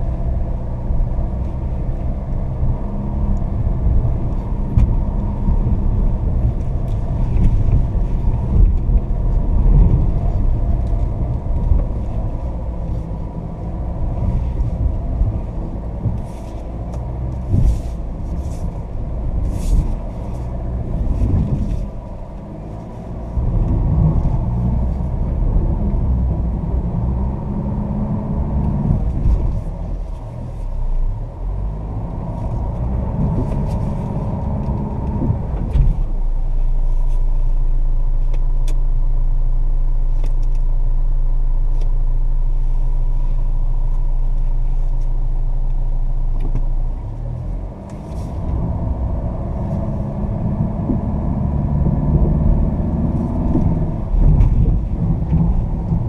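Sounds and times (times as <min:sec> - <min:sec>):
knocks and rattles over ruts: 0:00.0 - 0:39.0, 0:42.9 - 0:56.0
diesel engine from inside cabin: 0:00.0 - 0:56.0.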